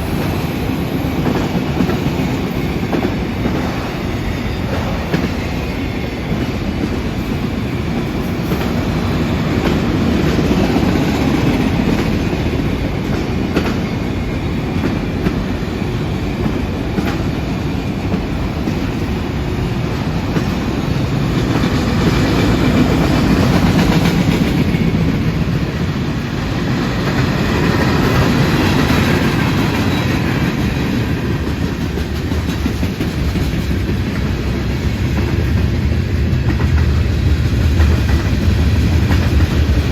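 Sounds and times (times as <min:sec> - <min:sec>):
clickety-clack over rail joints: 0:00.0 - 0:39.9
train wheels rumbling on rail: 0:00.0 - 0:39.9.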